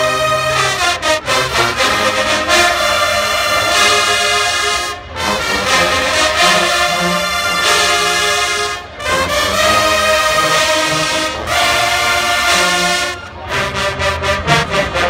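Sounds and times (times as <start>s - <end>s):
marching band brass chords: 0.0s - 15.0s.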